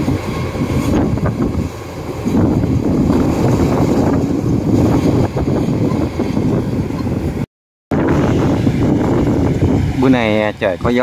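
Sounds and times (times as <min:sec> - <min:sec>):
combine harvester running: 0:00.0 - 0:11.0
wind rumbling on microphone: 0:00.0 - 0:11.0.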